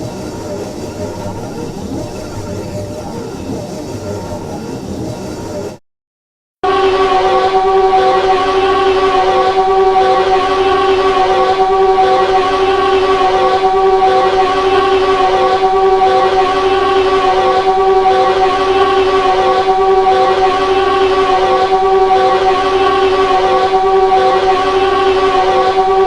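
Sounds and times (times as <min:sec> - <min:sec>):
starfighter engine drone: 0:00.0 - 0:05.8, 0:06.7 - 0:26.0.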